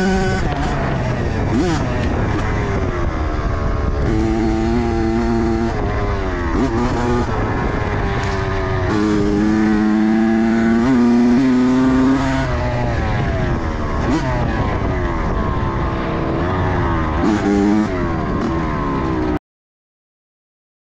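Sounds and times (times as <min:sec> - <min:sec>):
motorcycle engine revving: 0:00.0 - 0:19.4.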